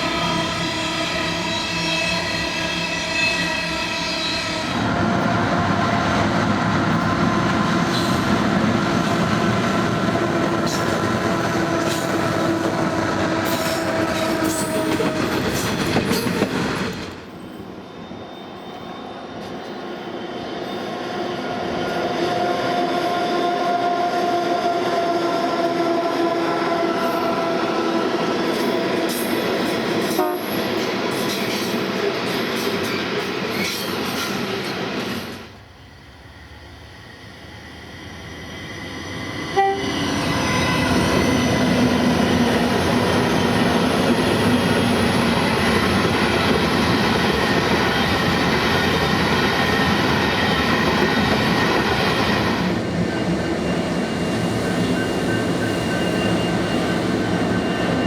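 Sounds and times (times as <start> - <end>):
diesel locomotives hauling train: 0.0 - 58.0.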